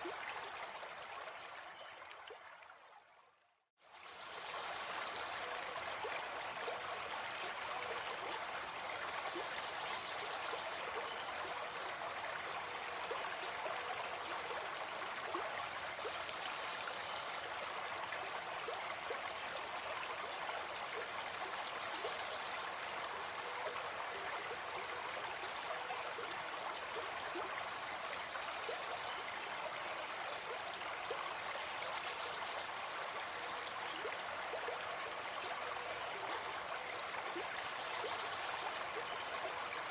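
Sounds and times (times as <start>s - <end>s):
stream flowing: 0.0s - 3.2s, 3.8s - 39.9s.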